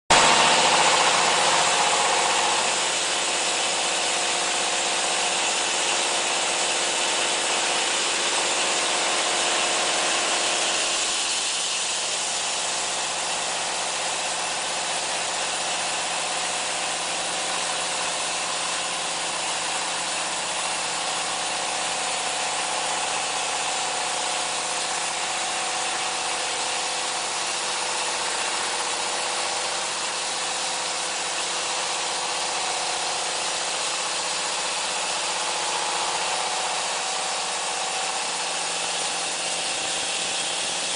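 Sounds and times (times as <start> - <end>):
band sawmill sawing wood: 0.1 - 40.9.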